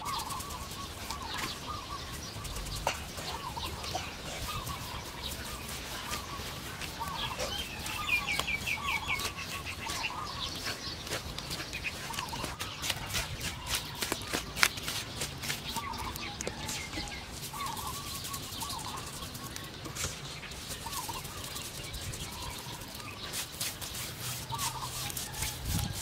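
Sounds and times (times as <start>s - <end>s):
bird wavering calls: 0.0s - 26.0s
hands crunching dry soil: 0.0s - 26.0s.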